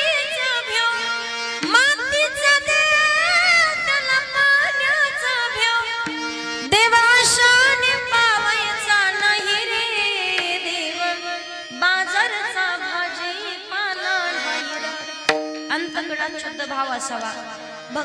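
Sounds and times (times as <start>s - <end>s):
woman singing devotional song: 0.0s - 18.0s.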